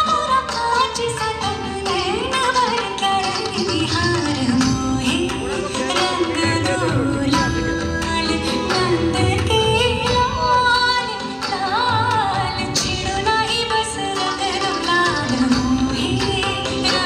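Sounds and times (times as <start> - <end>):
song over loudspeakers: 0.0 - 17.0.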